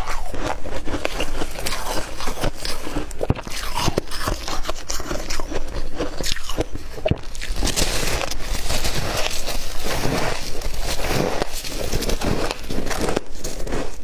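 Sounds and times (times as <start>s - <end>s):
person chewing crunchy ice: 0.0s - 14.0s.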